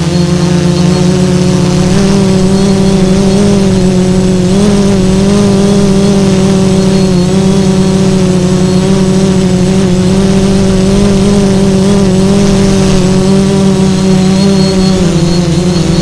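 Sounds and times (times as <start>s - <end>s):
drone motors and propellers droning: 0.0s - 16.0s.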